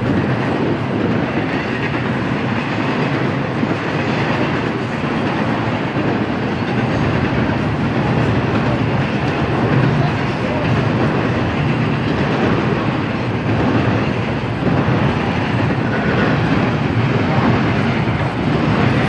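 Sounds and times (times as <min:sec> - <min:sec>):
train wheels on track: 0:00.0 - 0:19.0.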